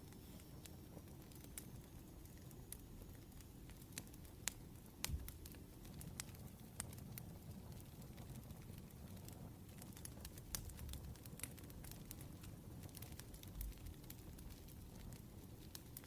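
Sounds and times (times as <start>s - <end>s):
wood fire crackling faintly: 0.0s - 16.0s.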